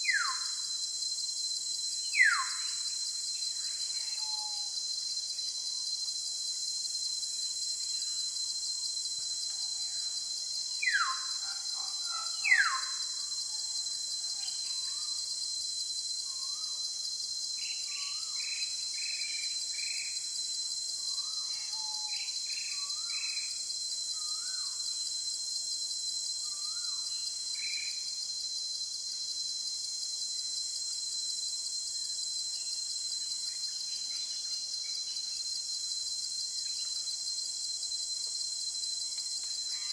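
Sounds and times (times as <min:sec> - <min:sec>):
insect chorus droning: 0:00.0 - 0:39.9.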